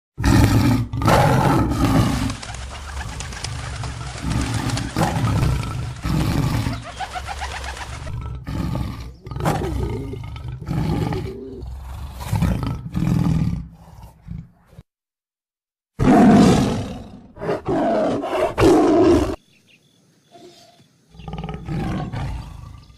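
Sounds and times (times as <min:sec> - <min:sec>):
tiger roaring and growling: 0:00.2 - 0:07.0, 0:08.0 - 0:14.8, 0:16.0 - 0:19.4, 0:21.1 - 0:22.9.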